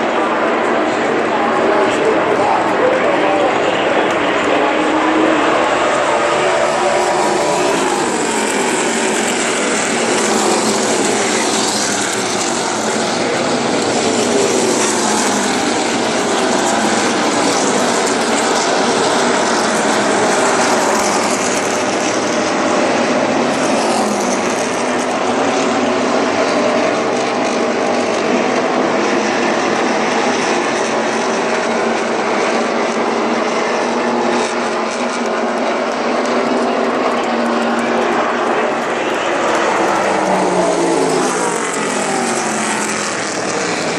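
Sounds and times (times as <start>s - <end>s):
racing engines passing: 0.0s - 43.9s.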